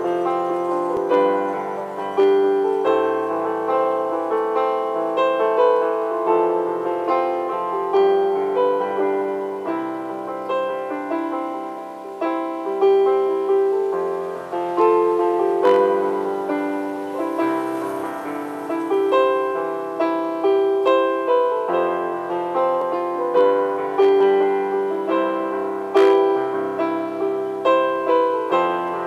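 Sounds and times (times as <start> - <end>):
electronic keyboard chords: 0.0 - 29.0.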